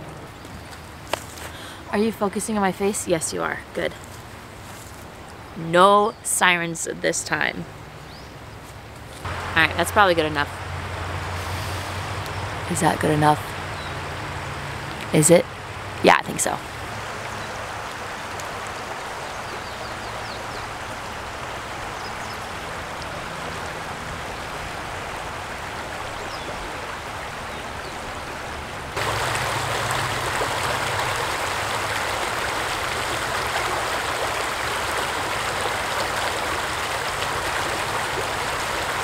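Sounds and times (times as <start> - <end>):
creek running over rocks: 0.0 - 39.0.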